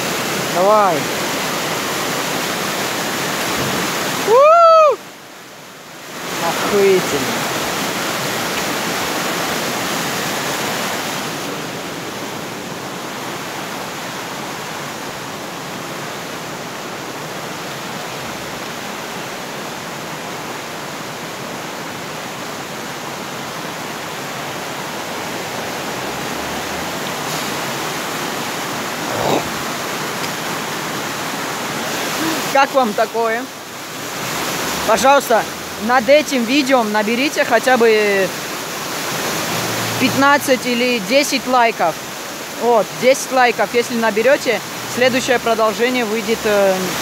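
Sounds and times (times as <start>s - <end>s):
waterfall rushing over rocks: 0.0s - 47.0s.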